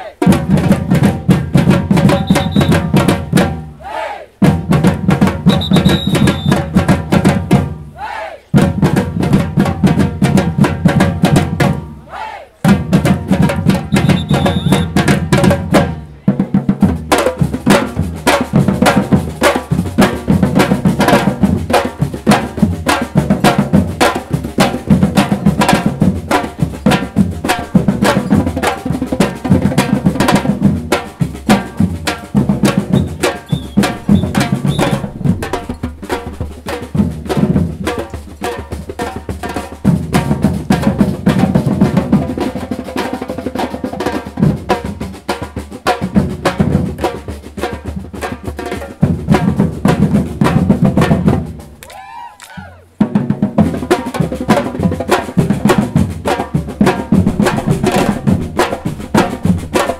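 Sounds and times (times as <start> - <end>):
drum band playing fast rhythm: 0.0 - 59.9.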